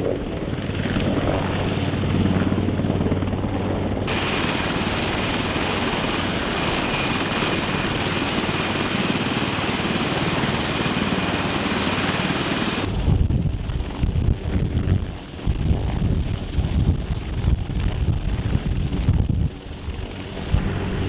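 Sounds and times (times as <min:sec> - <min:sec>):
helicopter rotors beating: 0:00.0 - 0:21.0
high turbine whine: 0:00.0 - 0:21.0
wind buffeting microphone: 0:00.0 - 0:21.0.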